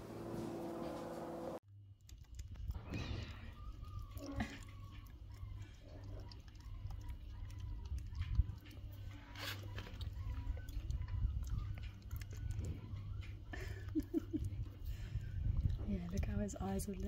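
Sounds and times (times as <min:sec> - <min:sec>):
steady low hum: 0:00.0 - 0:17.0
monkey chewing: 0:01.8 - 0:17.0.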